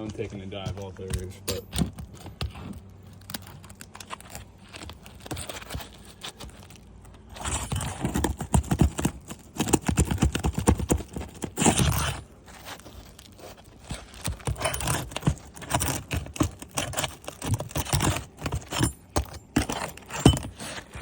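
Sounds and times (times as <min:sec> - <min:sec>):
phone knocking and scraping on shingles: 0:00.0 - 0:21.0.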